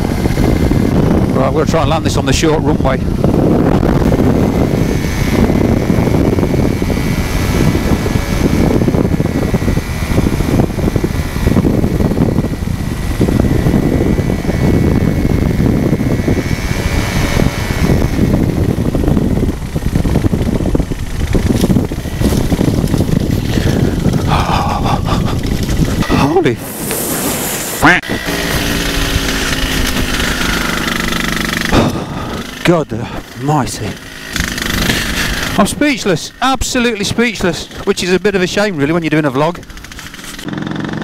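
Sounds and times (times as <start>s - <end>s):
wind rushing: 0.0s - 40.4s
two-stroke engine and propeller: 0.0s - 41.0s.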